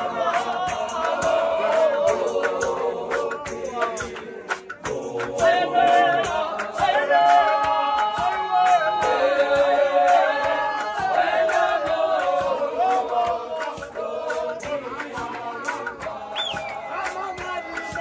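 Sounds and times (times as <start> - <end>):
group singing gospel in harmony: 0.0 - 18.0
hand percussion beat: 0.0 - 18.0.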